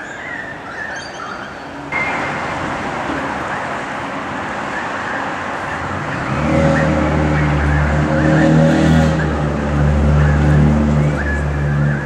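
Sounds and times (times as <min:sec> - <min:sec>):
bird calls: 0:00.0 - 0:02.4, 0:03.1 - 0:12.0
road traffic noise: 0:00.0 - 0:12.0
vehicle engine hum: 0:01.9 - 0:12.0.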